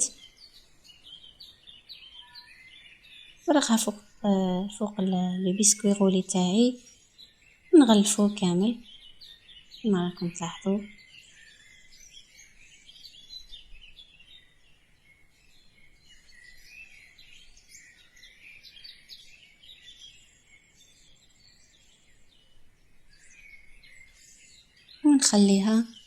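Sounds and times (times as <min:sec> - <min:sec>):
small birds twittering: 0:00.0 - 0:26.0.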